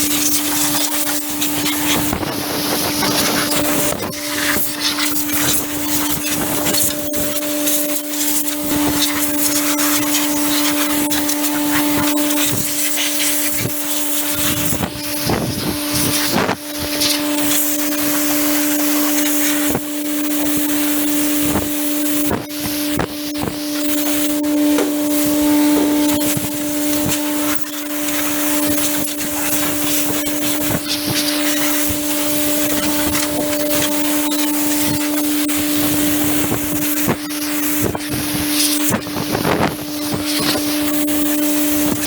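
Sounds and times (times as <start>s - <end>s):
air compressor humming: 0.0s - 42.0s.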